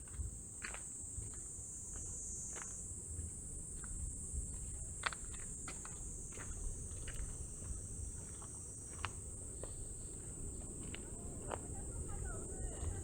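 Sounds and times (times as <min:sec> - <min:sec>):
insects chorus: 0:00.1 - 0:13.0.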